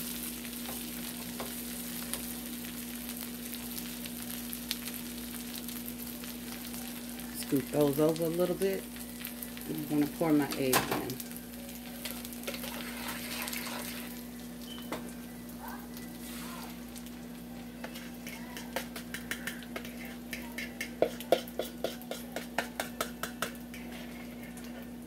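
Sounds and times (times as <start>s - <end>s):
eggs sizzling in a pan: 0.0s - 25.0s.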